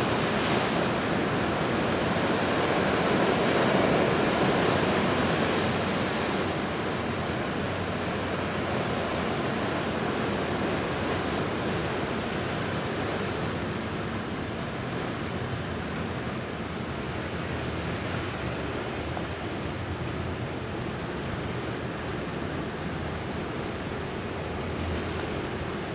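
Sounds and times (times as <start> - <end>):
sea: 0.0 - 25.9
wind: 0.0 - 25.9.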